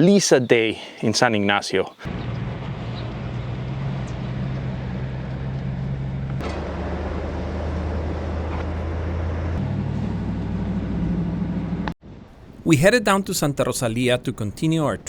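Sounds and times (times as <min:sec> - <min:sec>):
road and wind noise: 0:02.1 - 0:15.0
vehicle engine drone: 0:02.1 - 0:15.0.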